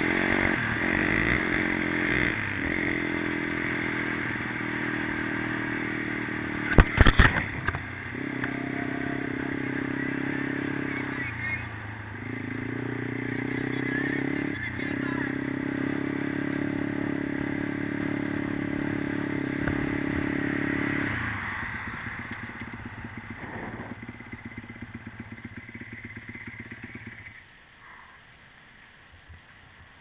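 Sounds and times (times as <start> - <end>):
small motorbike engine running: 0.0 - 27.5.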